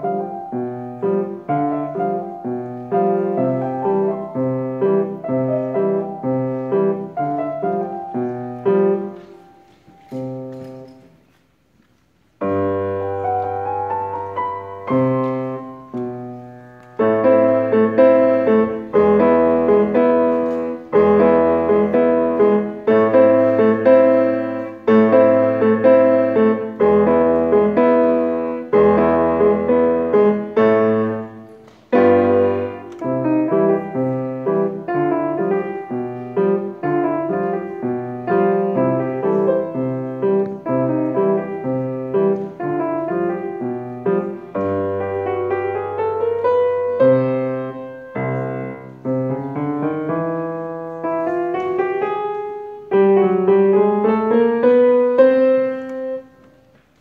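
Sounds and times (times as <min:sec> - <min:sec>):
ragtime piano: 0:00.0 - 0:11.0, 0:12.4 - 0:56.4.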